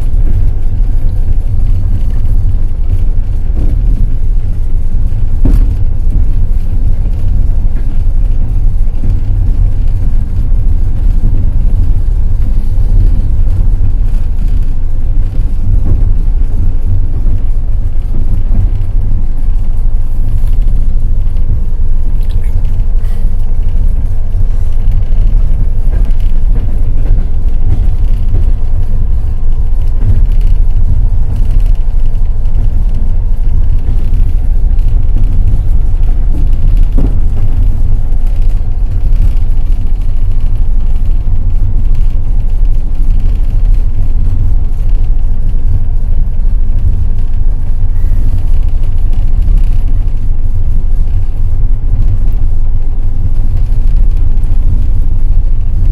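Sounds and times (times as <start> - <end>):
train carriage deep rumble: 0.0 - 55.9.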